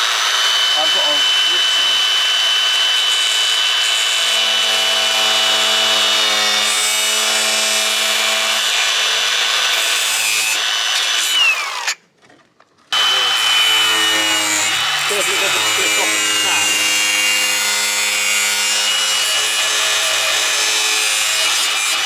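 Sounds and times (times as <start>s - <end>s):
power cutting tool whining: 0.0s - 12.0s, 13.0s - 22.0s.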